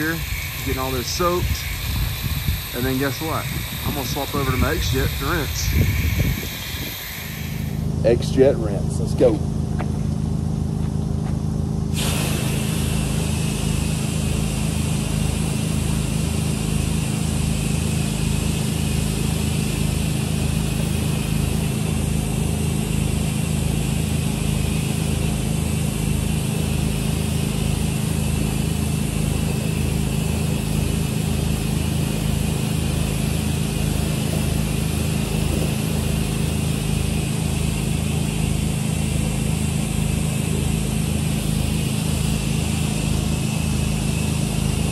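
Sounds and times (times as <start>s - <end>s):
high-pressure water spray hiss: 0.0s - 8.0s, 11.9s - 44.9s
pressure washer engine humming: 0.0s - 44.9s.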